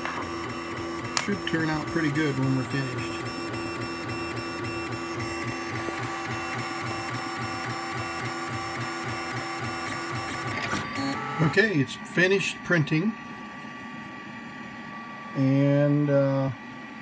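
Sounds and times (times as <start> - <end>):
printer motors pulsing: 0.0 - 17.0
steady motor whine: 0.0 - 17.0.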